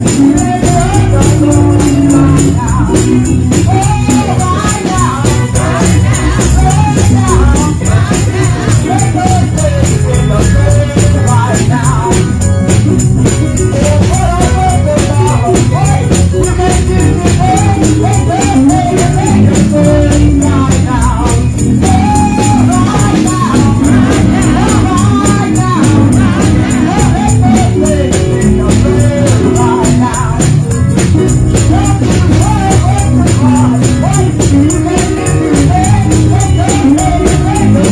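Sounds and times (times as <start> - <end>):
gospel choir singing: 0.0 - 12.8, 13.6 - 37.9
tambourine jingling: 0.0 - 37.9.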